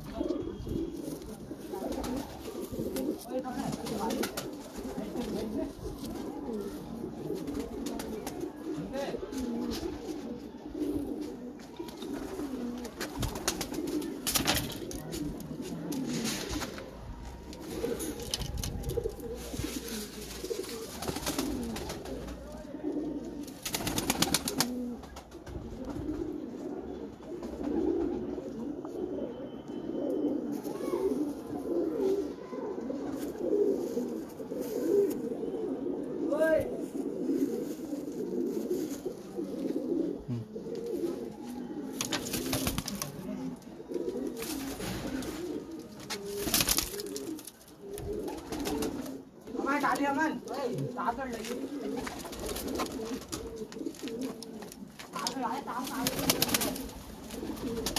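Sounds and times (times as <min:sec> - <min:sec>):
pigeons cooing: 0:00.0 - 0:57.9.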